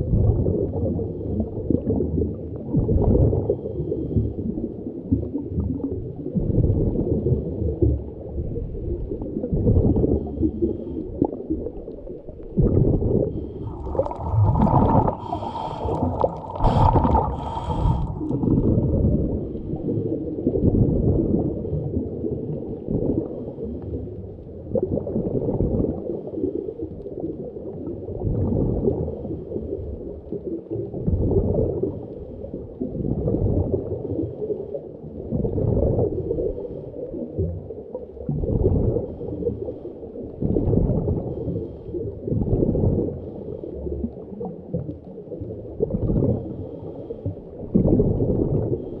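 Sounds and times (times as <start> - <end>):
water gurgling underwater: 0.0 - 49.0.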